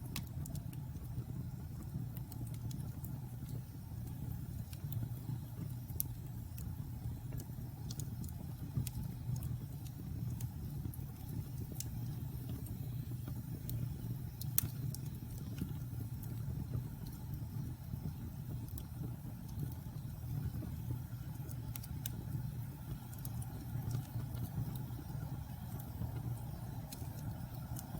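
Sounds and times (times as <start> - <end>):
fire flames rumbling: 0.0 - 27.9
wood fire crackles and pops: 0.0 - 27.9.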